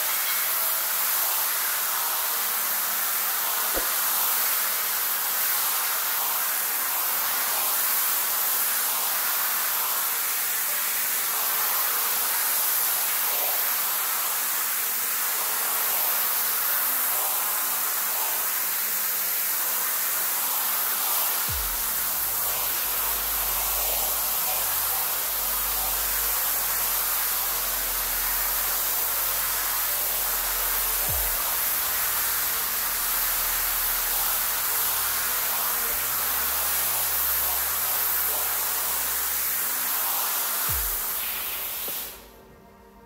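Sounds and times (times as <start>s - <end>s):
pressure washer spraying rug: 0.0s - 42.4s.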